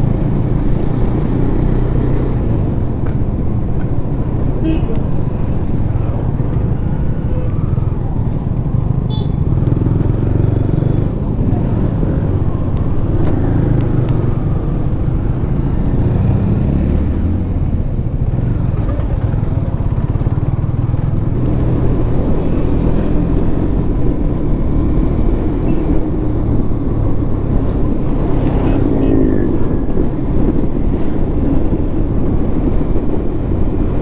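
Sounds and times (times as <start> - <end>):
wind rumble on microphone: 0.0 - 34.0.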